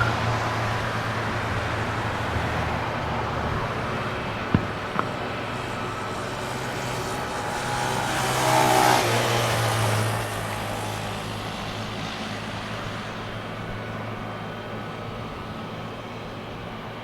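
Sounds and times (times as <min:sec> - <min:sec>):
vehicle passing close by: 0:00.0 - 0:14.2.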